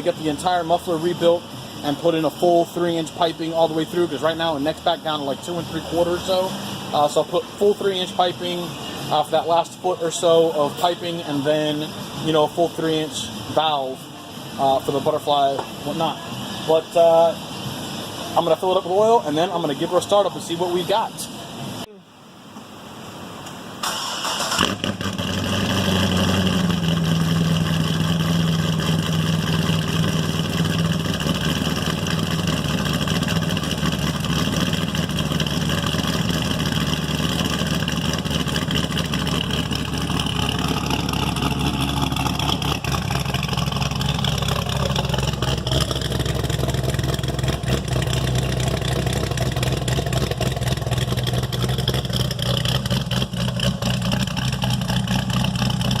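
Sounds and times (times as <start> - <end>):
car engine idling: 0.0 - 21.8, 23.9 - 56.0.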